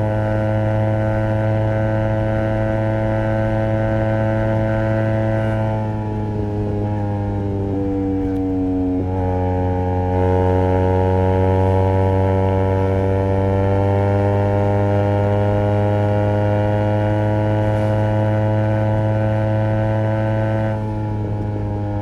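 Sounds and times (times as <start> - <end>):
motorcycle engine cruising: 0.0 - 22.0.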